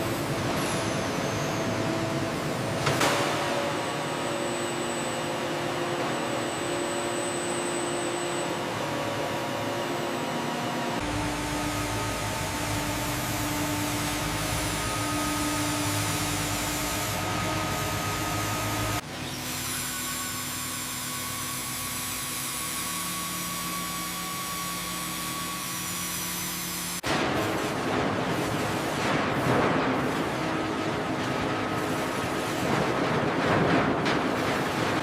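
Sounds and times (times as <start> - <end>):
sawmill machinery whirring: 0.0 - 35.0.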